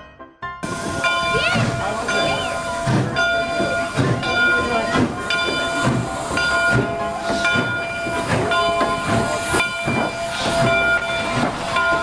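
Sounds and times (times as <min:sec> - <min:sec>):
hiss of steam: 0:00.6 - 0:11.8
steam locomotive chuffing: 0:00.6 - 0:12.0.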